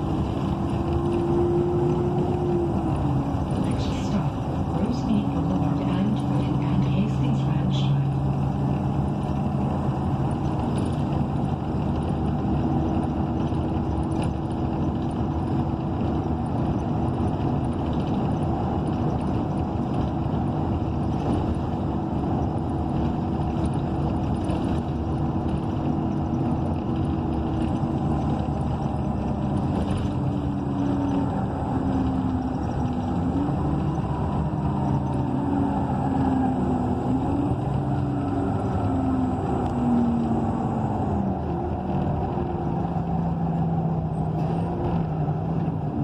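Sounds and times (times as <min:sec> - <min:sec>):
bus engine humming: 0:00.0 - 0:46.0
road noise: 0:00.0 - 0:46.0.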